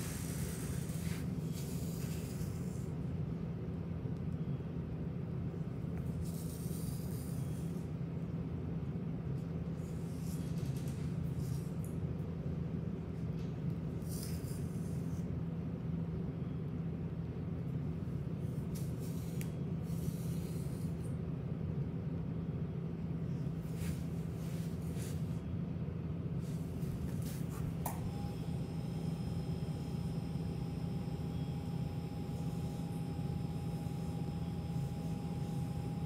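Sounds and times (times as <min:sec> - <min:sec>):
faint steady whine: 0:00.0 - 0:36.0
steady low hum: 0:00.0 - 0:36.0.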